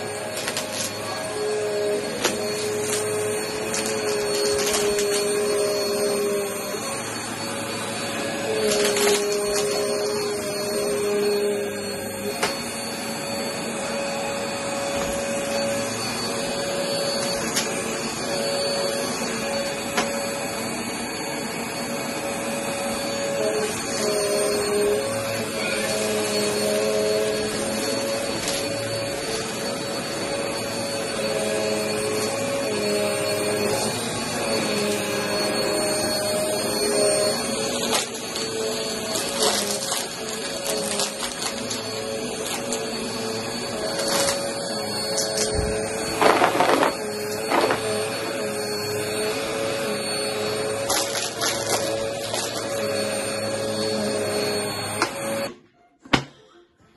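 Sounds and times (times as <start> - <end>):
upright vacuum cleaner running: 0.0 - 55.6.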